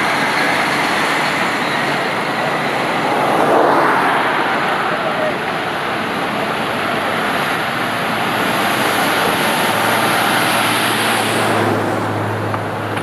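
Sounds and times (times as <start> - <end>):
coach diesel engine hum: 0.0 - 13.0.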